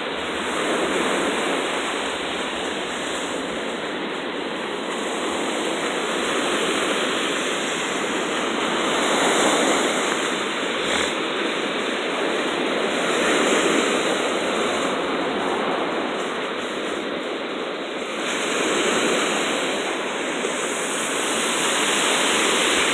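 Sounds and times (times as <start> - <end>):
small waves washing over sand: 0.0 - 22.9.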